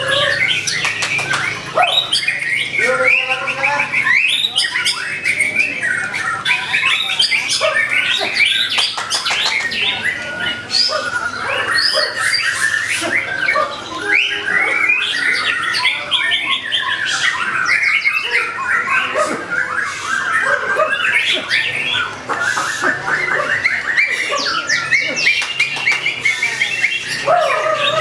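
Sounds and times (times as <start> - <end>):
harsh rattling bird calls: 0.0 - 28.0
songbird whistles and trills: 0.0 - 28.0.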